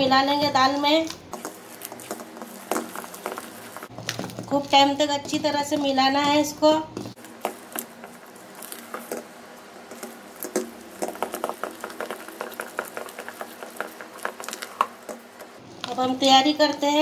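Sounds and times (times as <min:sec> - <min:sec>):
hand squishing wet batter: 0:00.4 - 0:16.2.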